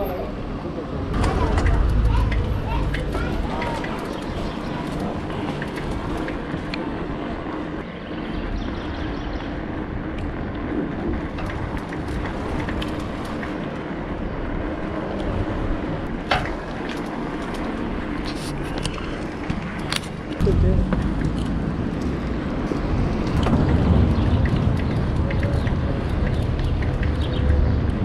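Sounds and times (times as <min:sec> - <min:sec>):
wind noise: 0:00.3 - 0:28.0
bicycle rolling over paving: 0:01.2 - 0:28.0.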